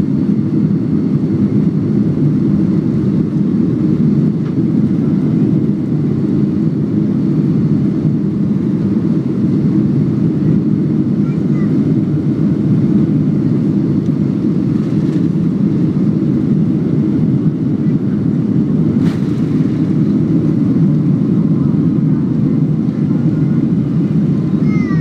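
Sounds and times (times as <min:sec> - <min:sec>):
jet engine rumble inside cabin: 0:00.0 - 0:25.0.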